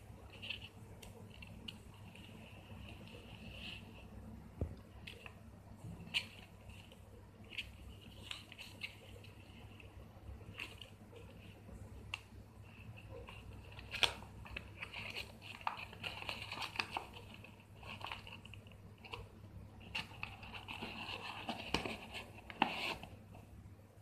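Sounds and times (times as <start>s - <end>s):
paper and card rustling: 0.0s - 4.1s, 4.9s - 23.4s
low steady hum: 0.0s - 24.0s.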